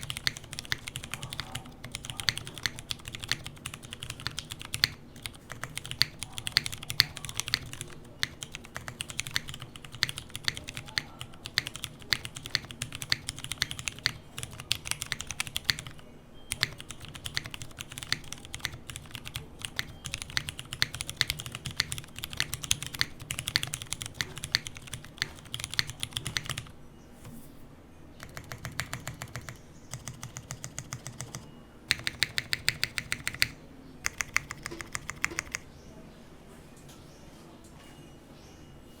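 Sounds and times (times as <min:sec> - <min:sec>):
mechanical keyboard typing: 0:00.0 - 0:26.7, 0:28.2 - 0:35.6.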